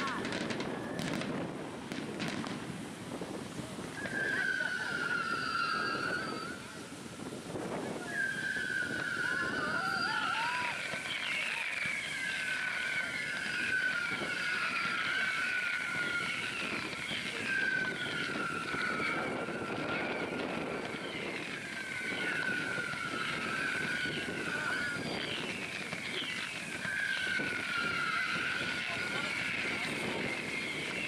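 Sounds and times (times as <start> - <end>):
whistling fireworks shrieking: 0.0 - 31.0
wind on microphone: 0.0 - 31.0.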